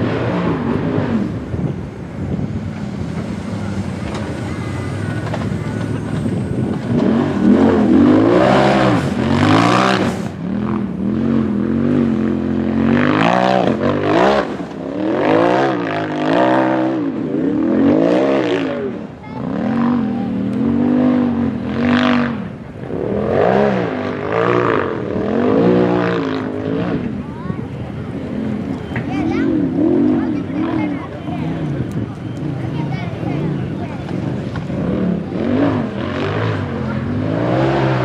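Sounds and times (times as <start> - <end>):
engine revving under load: 0.0 - 38.0.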